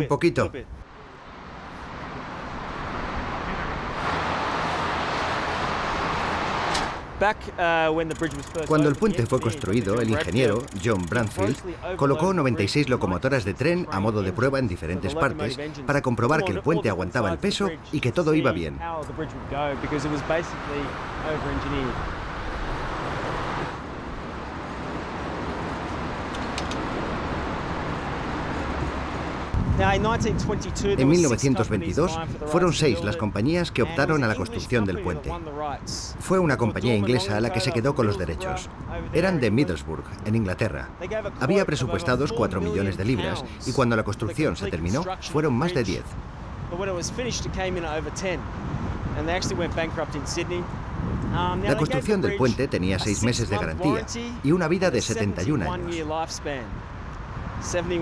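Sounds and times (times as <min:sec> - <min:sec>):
rushing road traffic: 0:00.0 - 0:58.0.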